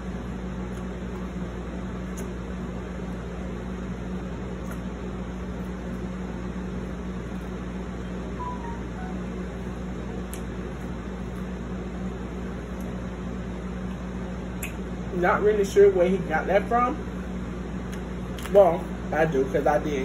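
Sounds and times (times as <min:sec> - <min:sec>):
low hum with even hiss: 0:00.0 - 0:20.0.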